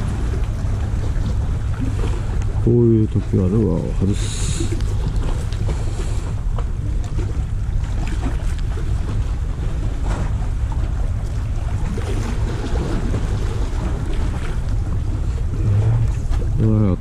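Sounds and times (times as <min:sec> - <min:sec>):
waves washing against breakwater: 0:00.0 - 0:17.0
wind rumbling on microphone: 0:00.0 - 0:17.0.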